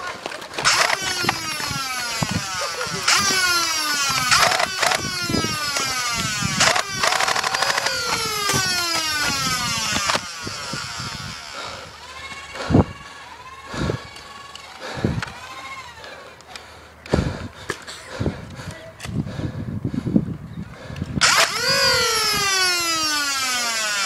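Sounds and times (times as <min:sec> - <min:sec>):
toy blaster flywheels whining: 0:00.0 - 0:16.8, 0:21.2 - 0:24.0.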